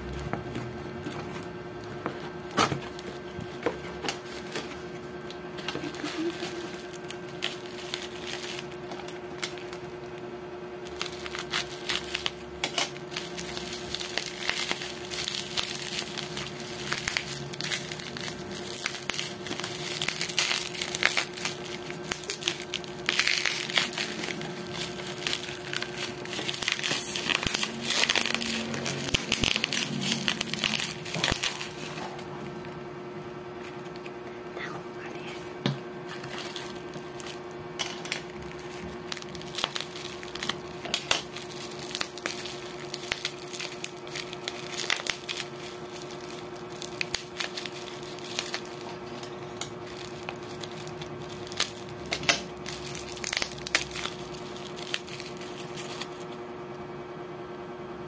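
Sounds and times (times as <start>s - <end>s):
bubble wrap crinkling and crackling: 0.1s - 32.8s, 33.5s - 56.5s.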